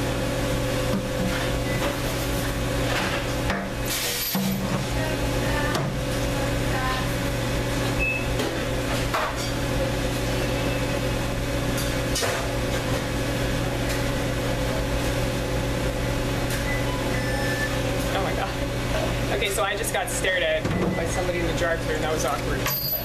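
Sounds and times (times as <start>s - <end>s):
kitchen equipment hum: 0.0s - 23.0s.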